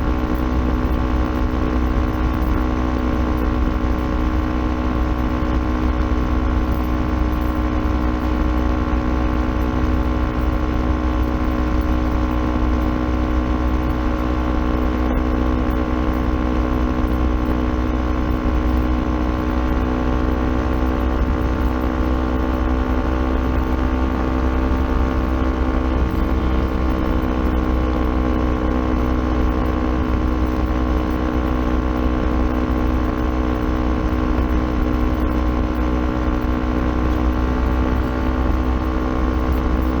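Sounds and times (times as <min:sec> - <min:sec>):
constant low rumble: 0:00.0 - 0:40.0
motorcycle engine running: 0:00.0 - 0:40.0.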